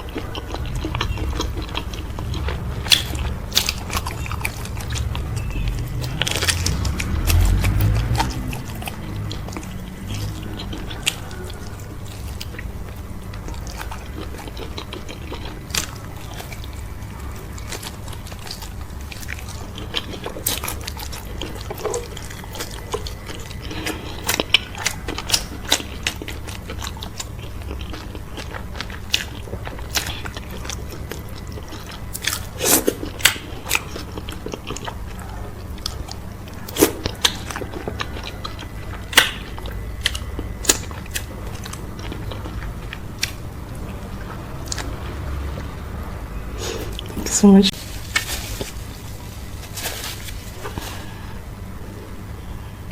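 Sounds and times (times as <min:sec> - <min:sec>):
chewing and lip smacks: 0:00.0 - 0:45.8
steady low hum: 0:00.0 - 0:52.9.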